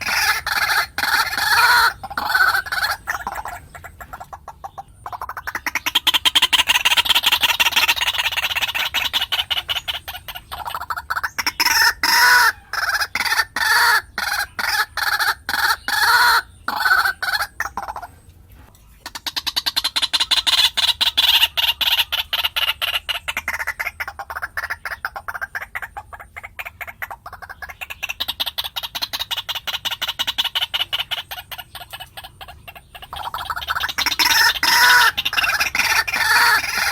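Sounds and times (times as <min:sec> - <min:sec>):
waterhen calling: 0:00.0 - 0:36.9.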